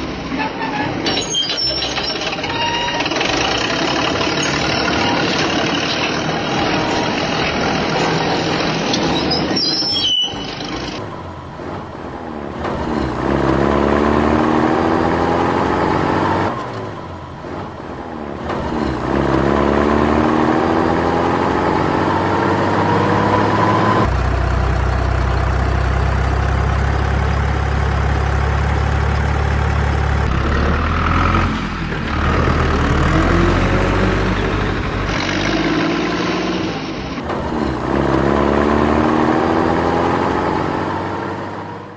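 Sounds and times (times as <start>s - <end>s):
heavy engines revving: 0.0s - 41.9s.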